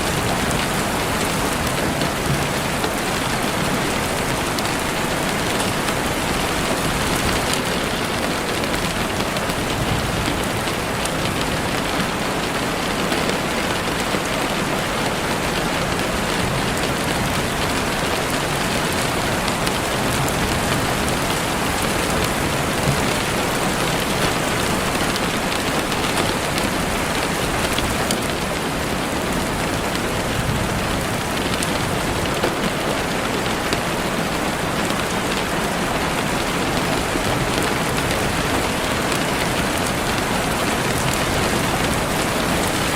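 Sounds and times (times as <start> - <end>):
heavy rain on leaves: 0.0 - 42.9.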